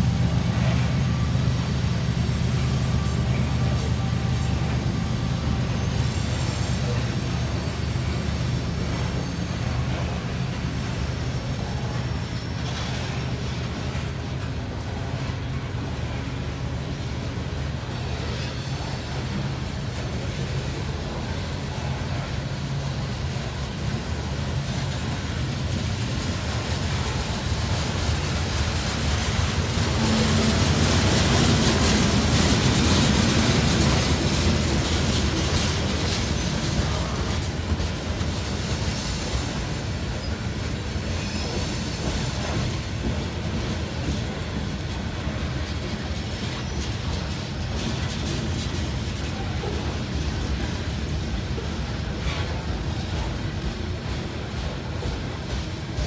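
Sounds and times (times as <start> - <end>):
freight train wheels rumbling: 0.0 - 56.0
wheels clicking on rails: 0.0 - 56.0.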